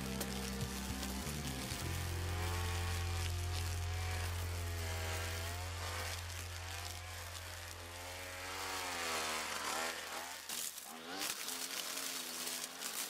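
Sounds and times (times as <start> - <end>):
brushcutter cutting grass: 0.0 - 13.0.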